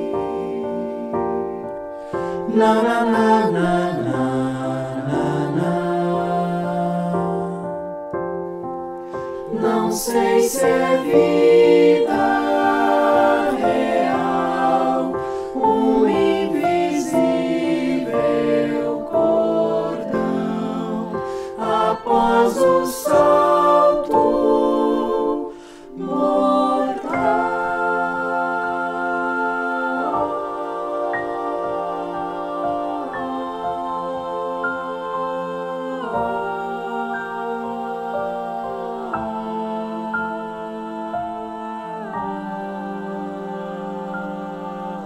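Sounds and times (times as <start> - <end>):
choir singing a cappella: 0.0 - 8.0, 9.0 - 45.0.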